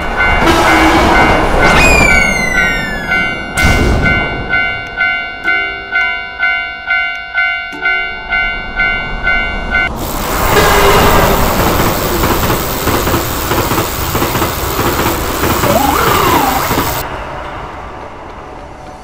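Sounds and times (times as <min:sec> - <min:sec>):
railroad crossing bell ringing: 0:00.0 - 0:17.0
train passing over crossing: 0:00.0 - 0:19.0.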